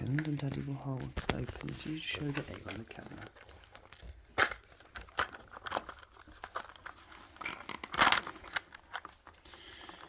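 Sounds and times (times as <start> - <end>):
wrapping crinkling and tearing: 0.0 - 10.0
wrapping ripping: 1.2 - 10.0.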